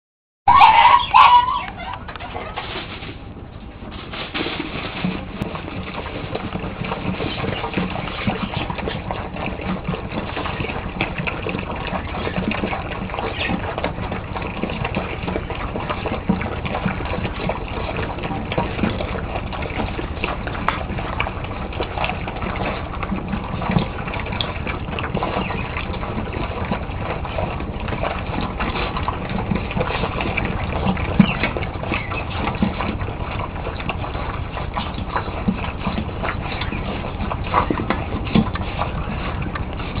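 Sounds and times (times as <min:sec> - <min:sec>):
puppies chewing and lapping: 0:00.5 - 0:40.0.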